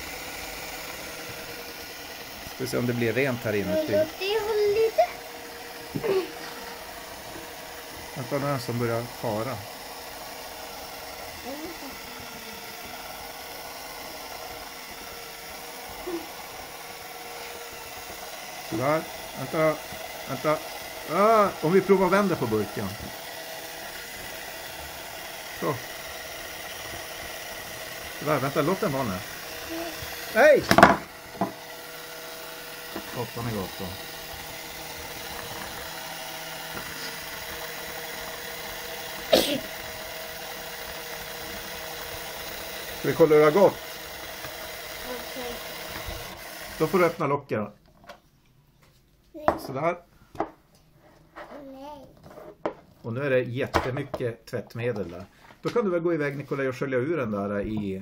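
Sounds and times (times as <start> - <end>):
small electric motor running: 0.0 - 47.3.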